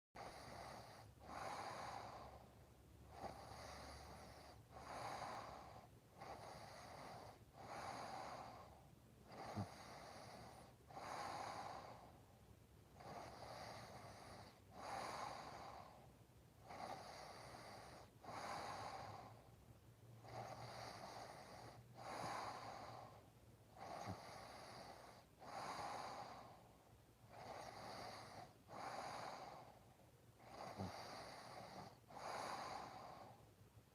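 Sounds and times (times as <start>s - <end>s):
faint snoring: 0.2s - 19.6s, 20.2s - 33.9s.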